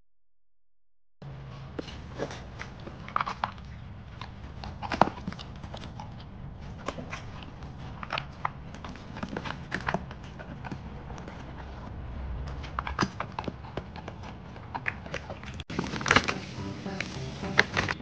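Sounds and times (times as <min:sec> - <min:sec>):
steady low hum: 0:01.2 - 0:18.0
dogs crunching treats: 0:01.6 - 0:18.0.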